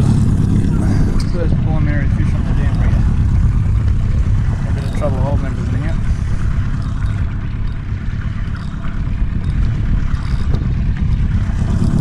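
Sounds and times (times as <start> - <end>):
outboard motor running: 0.0 - 12.0
water churning: 0.0 - 12.0.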